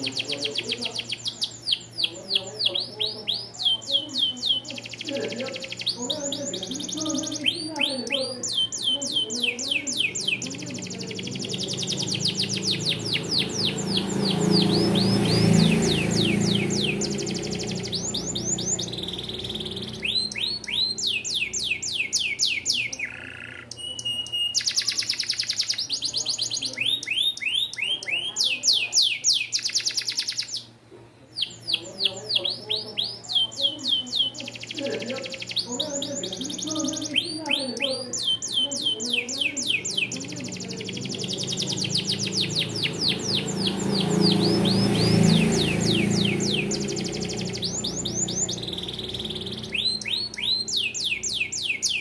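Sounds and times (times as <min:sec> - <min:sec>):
canary singing trills: 0:00.0 - 0:52.0.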